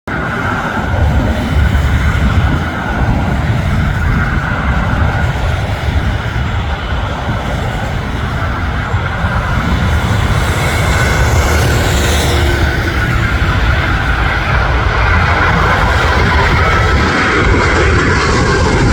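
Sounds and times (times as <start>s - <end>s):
jet engine rumble and whine: 0.0s - 18.9s.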